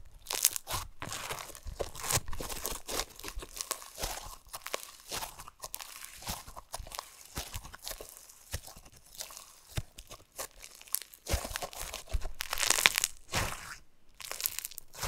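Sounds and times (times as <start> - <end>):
slime crunching and crackling: 0.0 - 15.0.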